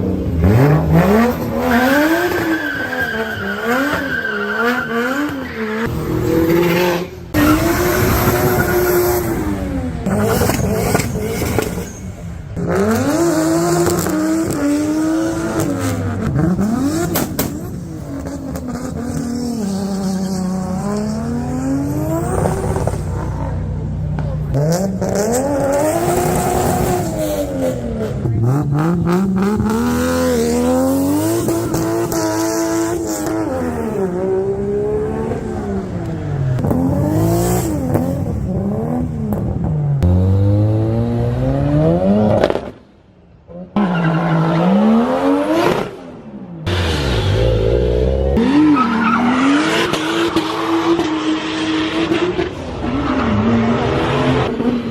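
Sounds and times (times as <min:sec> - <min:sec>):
turbocharged car engines revving: 0:00.0 - 0:54.9.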